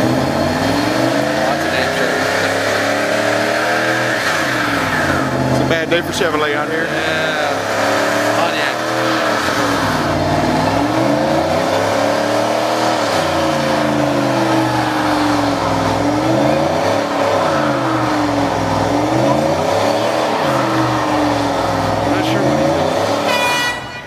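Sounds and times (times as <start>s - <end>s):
tyres spinning: 0.0s - 23.3s
car engine revving hard: 0.0s - 23.8s.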